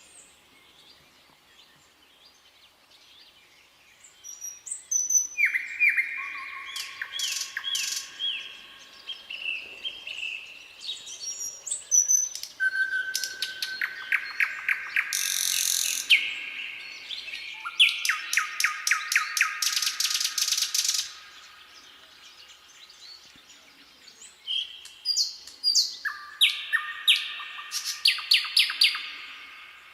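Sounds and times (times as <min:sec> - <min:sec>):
nightingale singing: 0:00.0 - 0:29.9.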